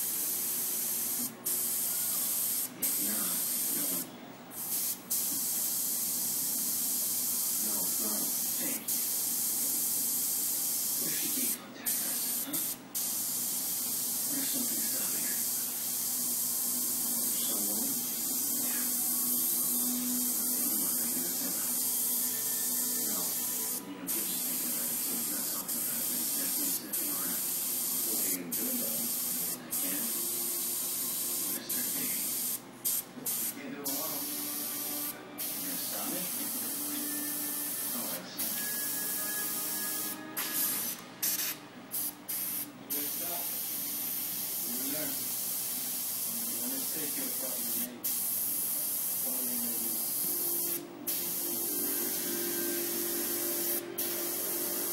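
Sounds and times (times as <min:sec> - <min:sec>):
airbrush hissing: 0:00.0 - 0:54.9.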